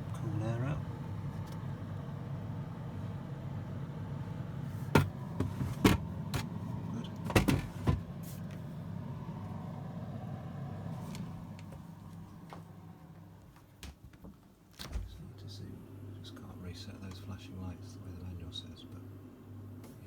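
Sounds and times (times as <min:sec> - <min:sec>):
fridge cooling fan hum: 0:00.0 - 0:20.0.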